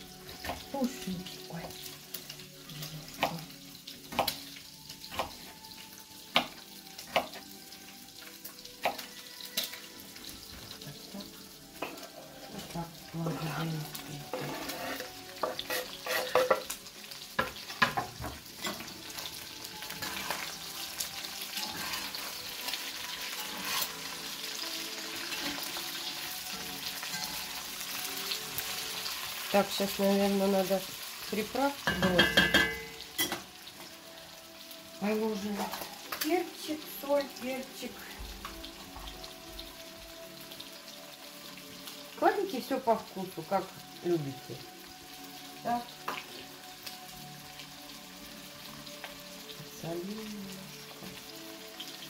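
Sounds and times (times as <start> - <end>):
pan sizzling: 0.0 - 52.0.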